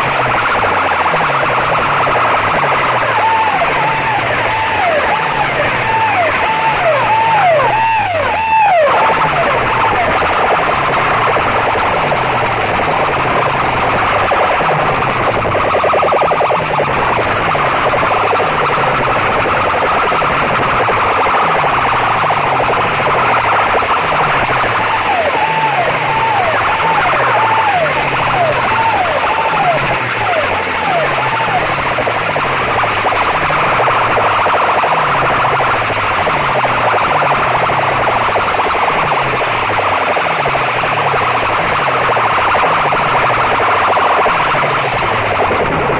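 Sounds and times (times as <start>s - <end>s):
bass-heavy music on loudspeakers: 0.0s - 45.9s
siren-like falling swoops: 0.0s - 45.9s.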